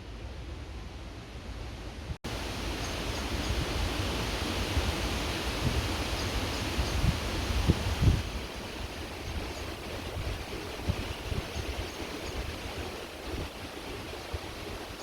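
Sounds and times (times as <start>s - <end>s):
creek water rushing: 2.3s - 15.0s
wind buffeting the microphone: 2.4s - 15.0s.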